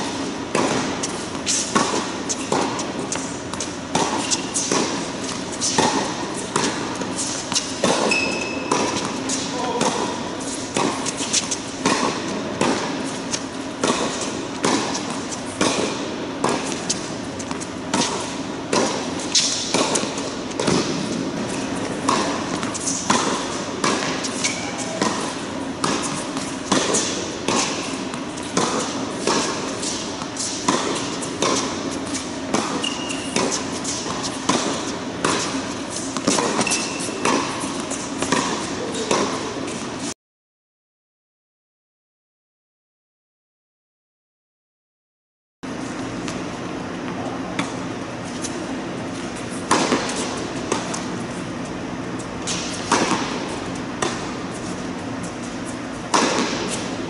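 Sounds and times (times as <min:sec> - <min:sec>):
tennis ball hit and bouncing: 0:00.0 - 0:40.0, 0:47.0 - 0:48.6, 0:49.3 - 0:51.4, 0:52.4 - 0:57.0
steady hum: 0:00.0 - 0:40.1, 0:45.7 - 0:57.0.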